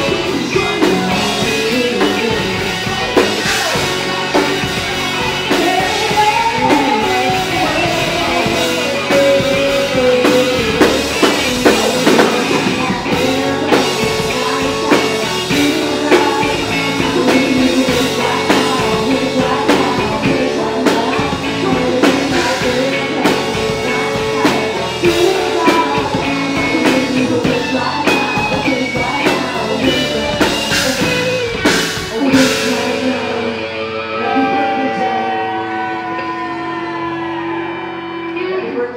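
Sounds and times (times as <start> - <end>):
drum kit: 0.0 - 35.0
electric guitar: 0.0 - 38.9
woman singing into a microphone: 0.0 - 38.9.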